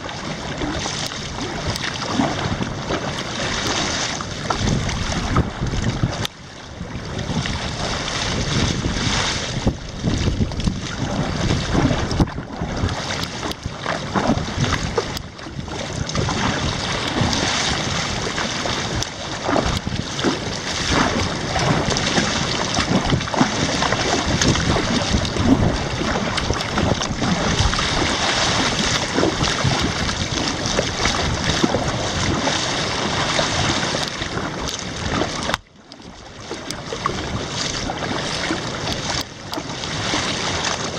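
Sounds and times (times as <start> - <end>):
wind buffeting microphone: 0.0 - 35.7
water splashing around kayak: 0.0 - 40.9.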